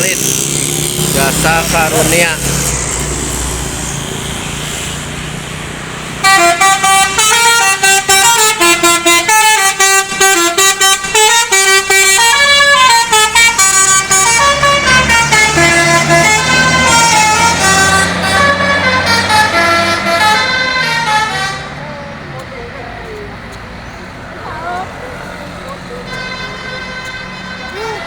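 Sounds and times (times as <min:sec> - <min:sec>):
musical bus horn melody: 0:00.0 - 0:22.7, 0:24.5 - 0:28.0
bus engine running: 0:00.0 - 0:28.0.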